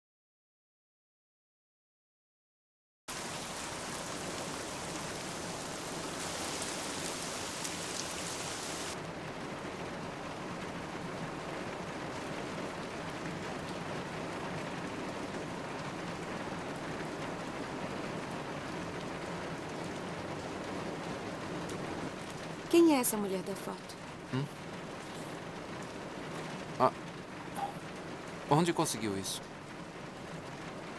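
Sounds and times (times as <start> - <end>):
rain falling on a car: 3.1 - 30.9.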